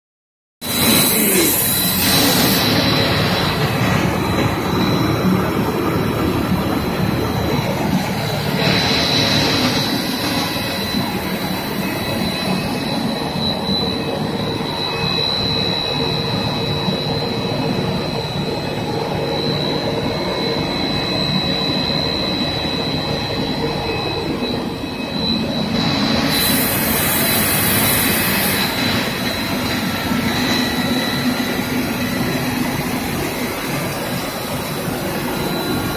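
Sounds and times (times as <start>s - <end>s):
extruder machine noise: 0.6s - 35.9s
high machine whine: 0.6s - 35.9s.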